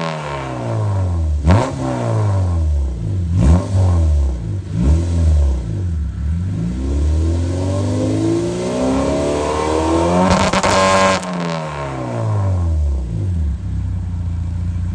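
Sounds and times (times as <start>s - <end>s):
car engine revving: 0.0s - 14.9s
exhaust crackling at rev limiter: 0.0s - 14.9s.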